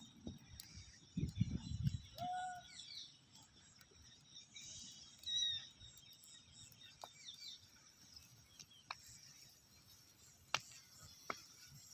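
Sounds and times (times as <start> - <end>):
faint bird chirps: 0.0 - 11.9.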